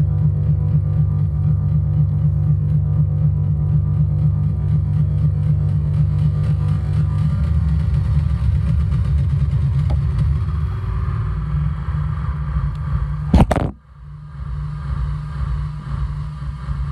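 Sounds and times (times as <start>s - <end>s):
distorted low rumbling drone: 0.0s - 16.9s.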